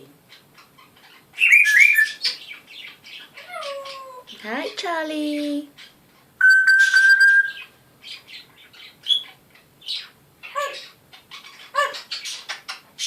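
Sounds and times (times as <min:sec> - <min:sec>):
parrot chirping and squawking: 0:00.3 - 0:04.4, 0:05.7 - 0:13.0.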